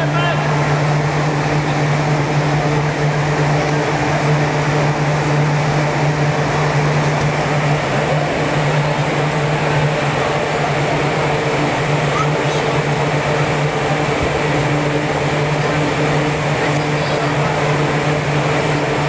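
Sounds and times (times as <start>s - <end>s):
ventilation blowers humming: 0.0s - 19.0s.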